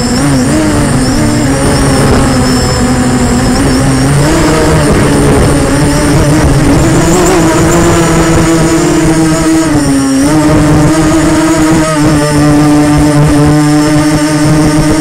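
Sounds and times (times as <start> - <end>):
drone propellers buzzing whine: 0.0 - 15.0.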